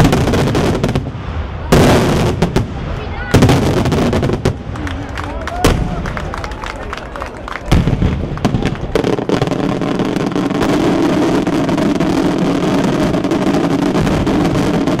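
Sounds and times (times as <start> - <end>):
fireworks bangs: 0.0 - 15.0
fireworks barrage crackling: 0.0 - 15.0.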